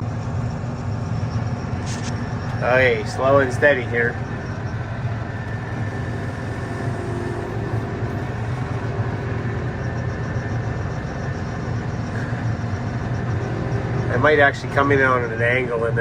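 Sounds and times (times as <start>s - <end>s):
farm machine engine idling: 0.0s - 16.0s.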